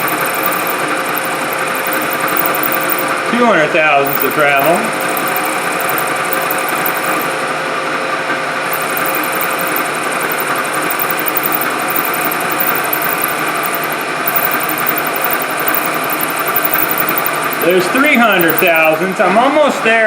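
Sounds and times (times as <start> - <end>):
milling machine whirring: 0.0 - 3.2, 4.1 - 7.3, 8.7 - 19.2.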